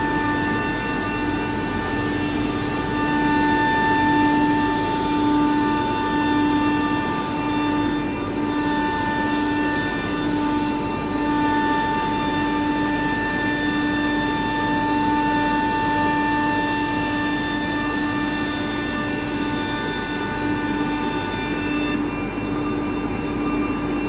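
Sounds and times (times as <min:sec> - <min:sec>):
router machinery with whining tones: 0:00.0 - 0:24.0.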